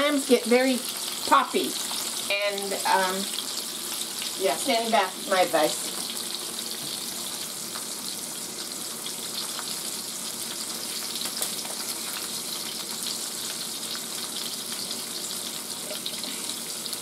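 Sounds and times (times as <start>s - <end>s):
clam strips frying in oil: 0.0s - 17.0s.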